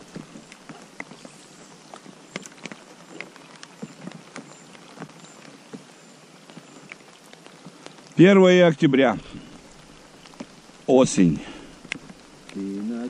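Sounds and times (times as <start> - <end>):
rain on river surface: 0.0 - 13.0.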